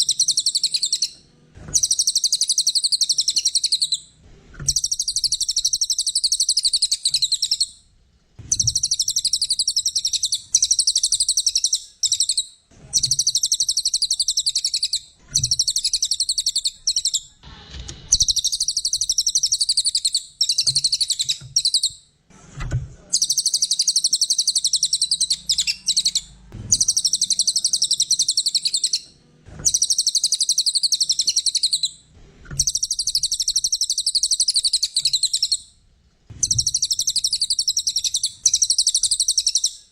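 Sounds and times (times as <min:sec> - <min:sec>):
songbird chattering song: 0:00.0 - 0:01.2, 0:01.8 - 0:04.1, 0:04.7 - 0:07.8, 0:08.5 - 0:17.4, 0:18.2 - 0:22.0, 0:23.2 - 0:29.0, 0:29.6 - 0:32.0, 0:32.6 - 0:35.6, 0:36.4 - 0:39.9.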